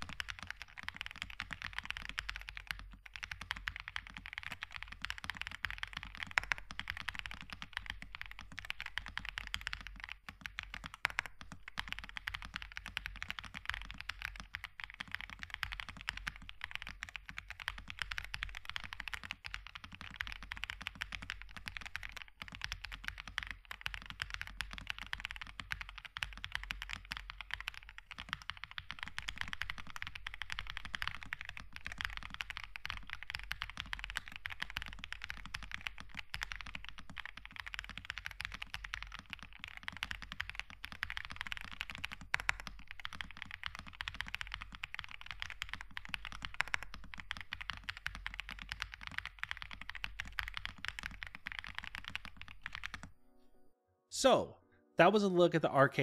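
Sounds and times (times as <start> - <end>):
fast mechanical keyboard typing: 0.0 - 53.1.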